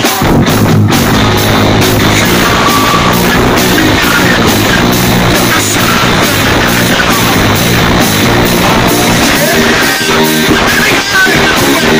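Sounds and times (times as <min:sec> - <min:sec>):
bass guitar: 0:00.0 - 0:11.9
drum kit: 0:00.0 - 0:11.9
electric guitar: 0:00.0 - 0:11.9.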